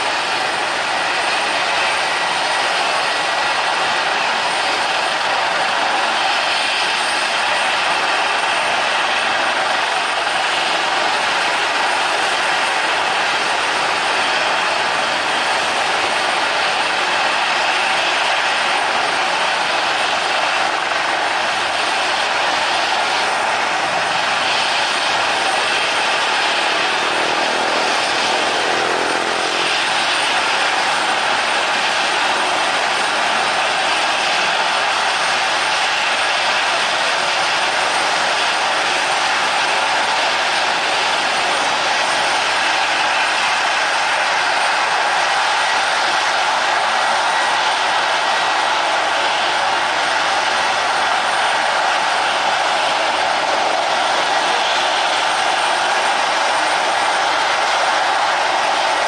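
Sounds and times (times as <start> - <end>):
helicopter rotor and turbine: 0.0 - 59.0
jet engines whining: 0.0 - 59.0.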